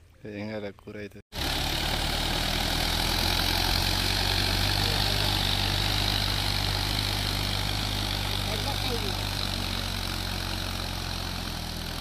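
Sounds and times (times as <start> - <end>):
tractor engine running: 1.3 - 12.0.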